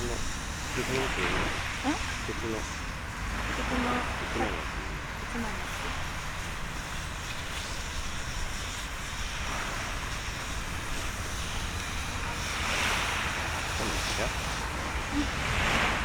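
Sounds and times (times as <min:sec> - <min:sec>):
sea waves washing on shore: 0:00.0 - 0:16.0
wind rumbling on microphone: 0:00.0 - 0:16.0.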